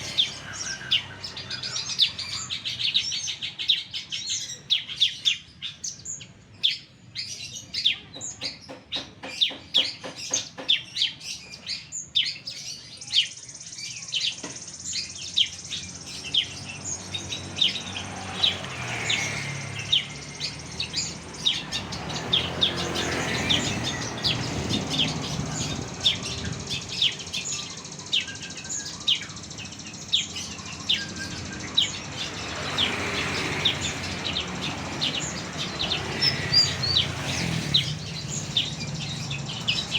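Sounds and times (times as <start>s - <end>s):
small songbird chirping: 0.0s - 39.9s.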